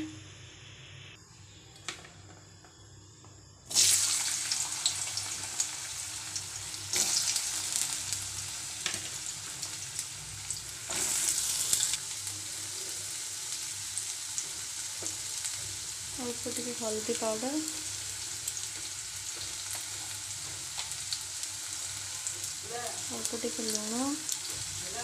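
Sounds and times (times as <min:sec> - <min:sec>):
potatoes sizzling in hot oil: 0:03.7 - 0:25.0.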